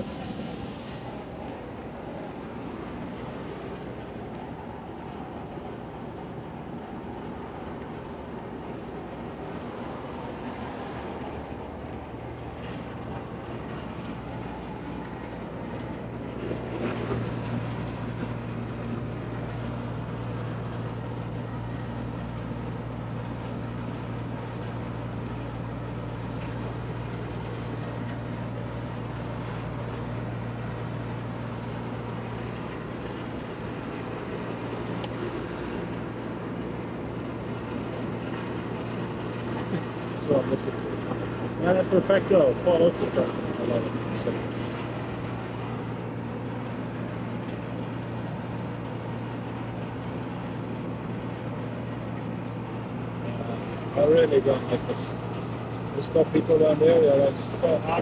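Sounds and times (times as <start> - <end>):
air conditioner drone: 0.0 - 58.0.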